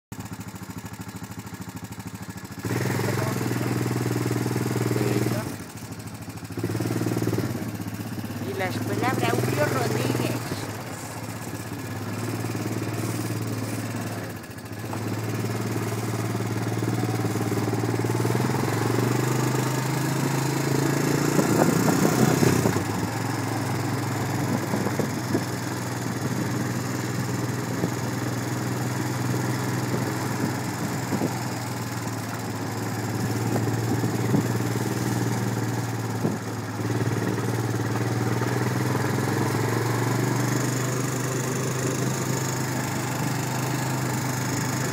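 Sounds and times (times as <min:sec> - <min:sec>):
vehicle engine running: 0:00.1 - 0:44.9.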